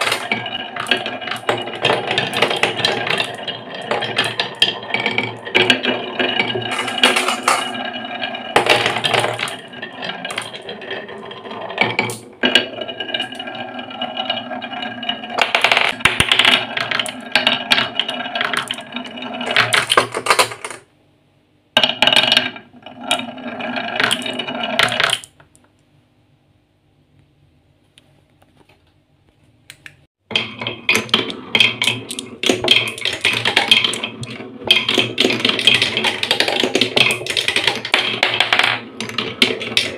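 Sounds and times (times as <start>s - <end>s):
marbles rattling down wooden tracks: 0.0s - 20.8s, 21.8s - 25.4s, 30.3s - 39.9s
marble rolling around wooden bowl: 0.0s - 20.9s, 21.8s - 25.4s, 30.2s - 39.9s.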